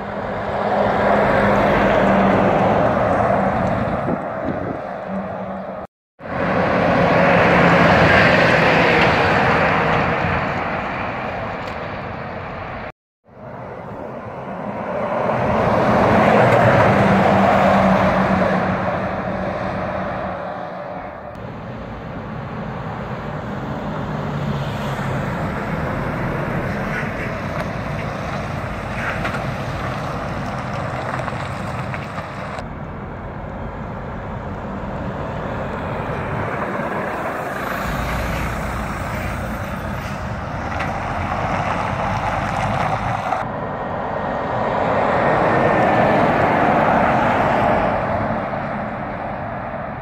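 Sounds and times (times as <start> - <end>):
diesel trucks driving past: 0.0 - 50.0.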